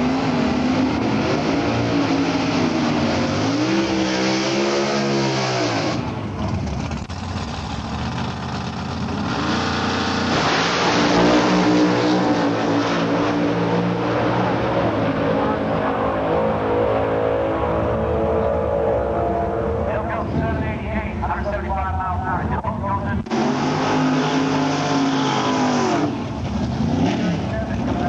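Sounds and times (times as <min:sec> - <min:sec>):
race car engines revving: 0:00.0 - 0:28.0.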